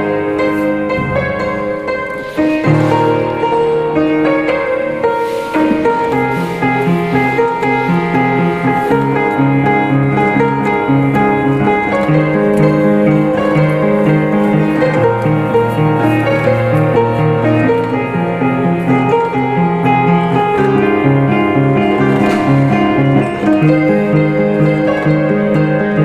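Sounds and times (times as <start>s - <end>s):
calm piano music: 0.0s - 26.0s.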